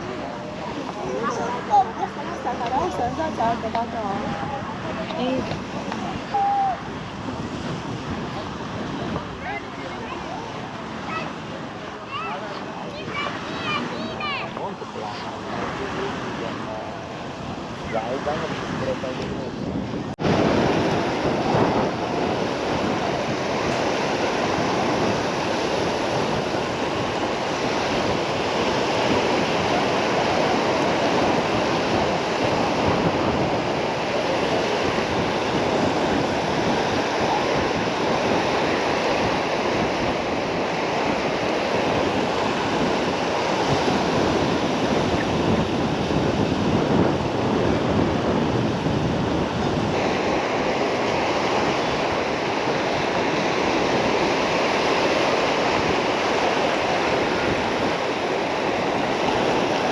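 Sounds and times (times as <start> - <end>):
sea waves washing on beach: 0.0 - 59.9
wind buffeting microphone: 0.0 - 59.9.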